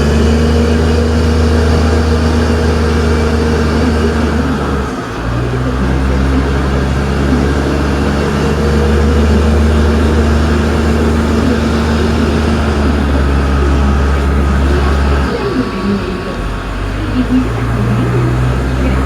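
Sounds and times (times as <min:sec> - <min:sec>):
tram engine droning: 0:00.0 - 0:19.0.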